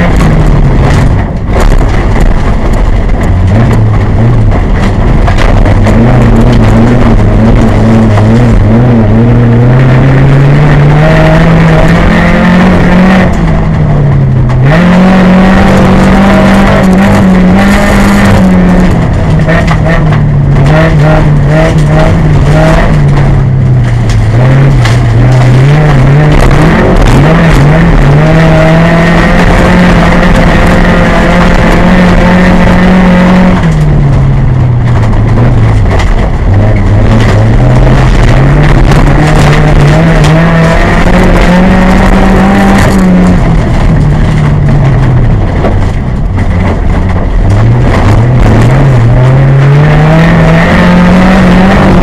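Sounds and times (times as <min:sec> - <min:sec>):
car engine revving hard: 0:00.0 - 0:52.0.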